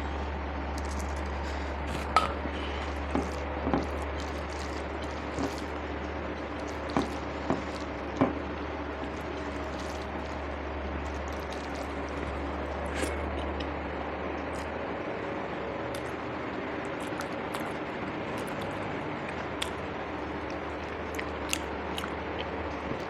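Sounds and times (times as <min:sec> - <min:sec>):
steady low hum: 0:00.0 - 0:23.0
wet chewing and squishing: 0:00.1 - 0:13.7, 0:14.4 - 0:14.8, 0:15.9 - 0:16.2, 0:16.8 - 0:23.0.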